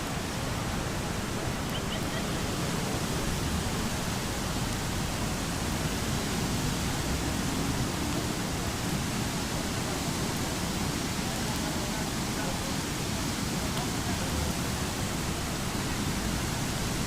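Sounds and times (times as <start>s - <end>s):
waterfall and stream rushing: 0.0s - 17.0s.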